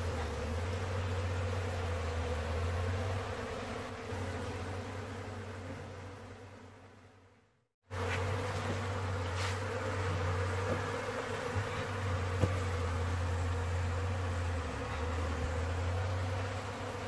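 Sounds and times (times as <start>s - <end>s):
bees buzzing: 0.0s - 7.3s, 7.9s - 17.0s.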